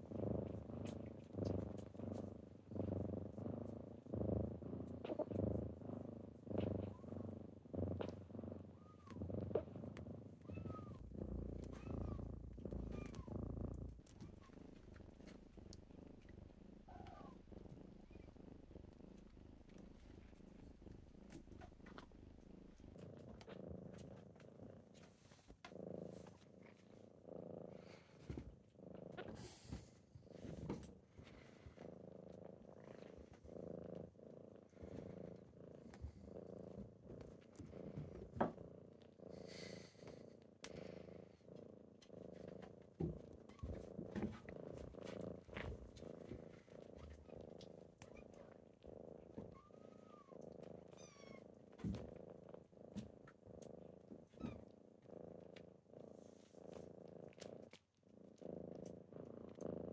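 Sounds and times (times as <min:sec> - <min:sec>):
kitten purring: 0:00.0 - 0:59.9.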